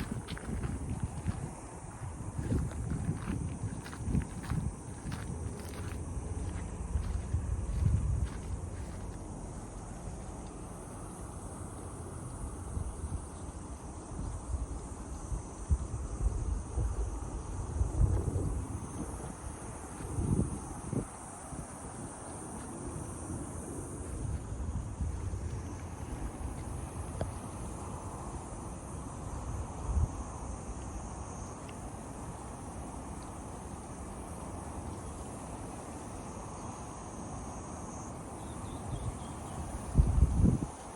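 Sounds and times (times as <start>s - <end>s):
insects chorus: 0.0s - 40.9s
wind rumble on microphone: 0.0s - 40.9s.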